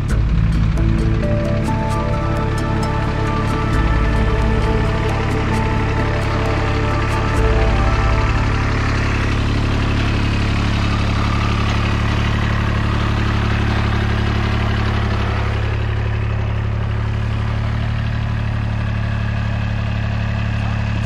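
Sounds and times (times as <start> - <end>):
diesel mower engine droning: 0.0 - 21.0.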